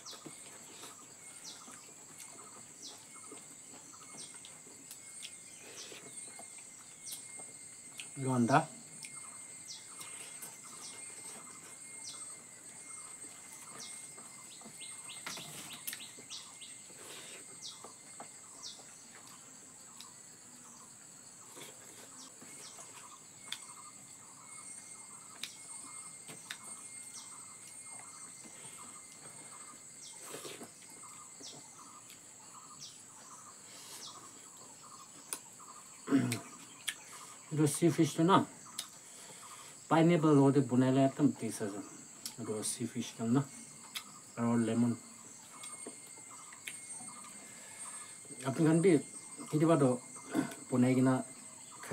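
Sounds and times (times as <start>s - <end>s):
birds chirping: 0.0s - 51.9s
high-pitched insect drone: 0.0s - 51.9s.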